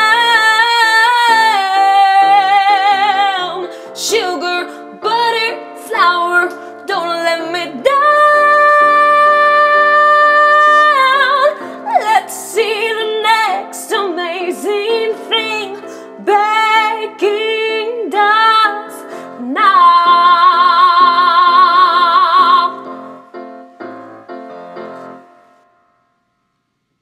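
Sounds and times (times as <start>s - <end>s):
woman singing: 0.0s - 22.9s
piano chords: 0.0s - 26.5s.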